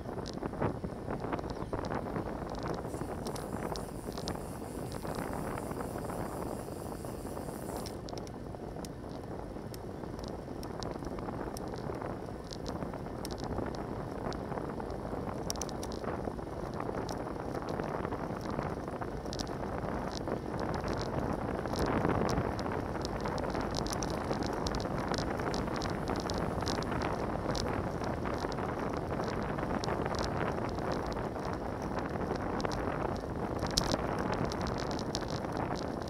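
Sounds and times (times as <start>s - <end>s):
bicycle road noise: 0.0s - 36.0s
wind on microphone: 0.0s - 36.0s
small clicks: 1.3s - 36.0s.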